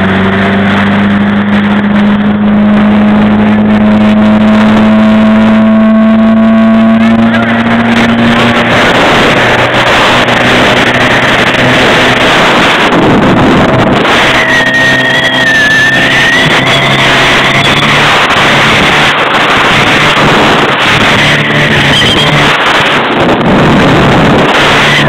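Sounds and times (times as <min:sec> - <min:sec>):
motorboat engine drone: 0:00.0 - 0:25.0
rushing wind and water: 0:00.0 - 0:25.0.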